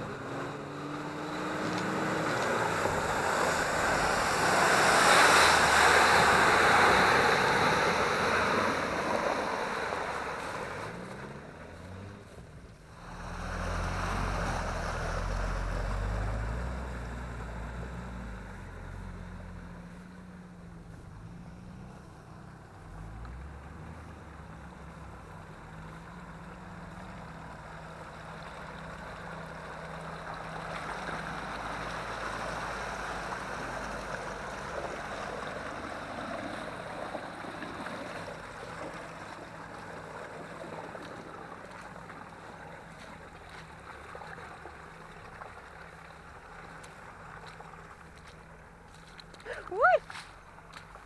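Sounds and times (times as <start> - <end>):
off-road engine running: 0.0 - 51.0
water splashing: 0.0 - 51.0.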